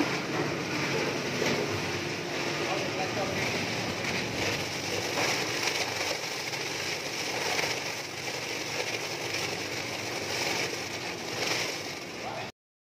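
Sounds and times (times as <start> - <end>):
machine whirring: 0.0 - 12.5.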